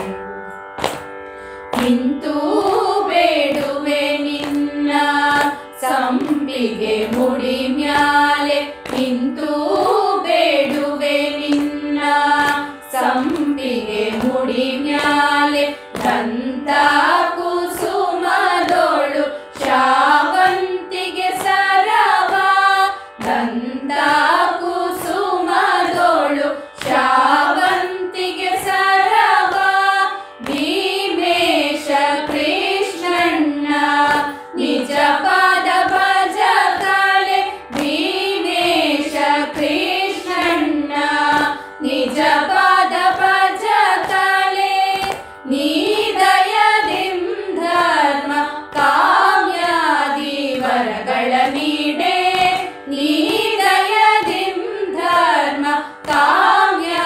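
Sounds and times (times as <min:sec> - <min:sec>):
women singing devotional song: 0:00.0 - 0:01.0, 0:01.7 - 0:57.0.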